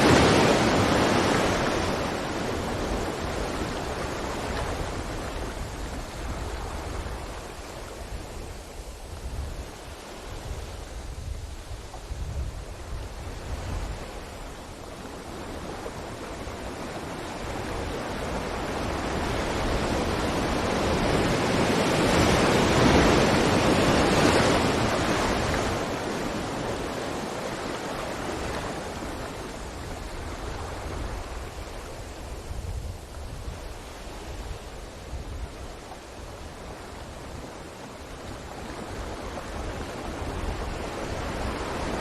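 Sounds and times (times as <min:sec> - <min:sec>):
ocean waves breaking on beach: 0:00.0 - 0:42.0.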